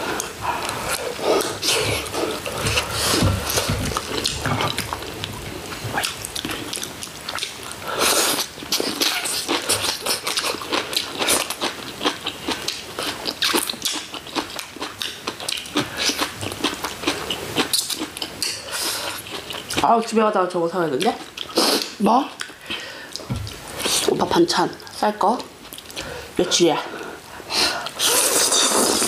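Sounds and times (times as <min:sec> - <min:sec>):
people chewing and crunching: 0:00.0 - 0:19.9, 0:21.0 - 0:24.2, 0:24.8 - 0:29.0.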